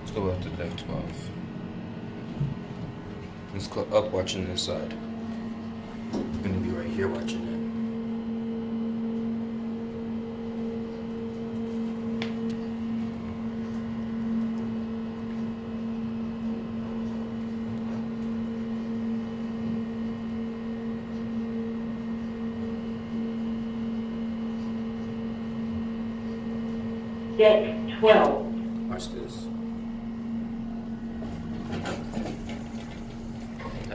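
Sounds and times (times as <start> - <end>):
elevator hum: 0.0 - 33.9.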